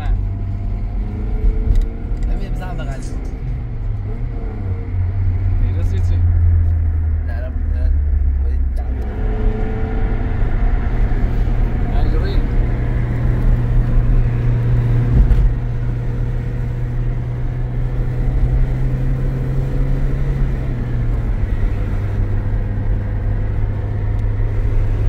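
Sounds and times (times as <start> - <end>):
vehicle engine and road drone: 0.0 - 25.0.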